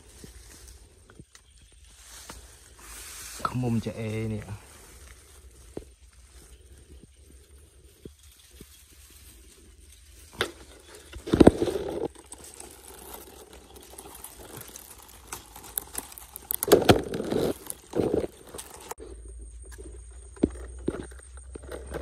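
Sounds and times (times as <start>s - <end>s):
dry grass rustling and crackling: 0.0s - 21.7s.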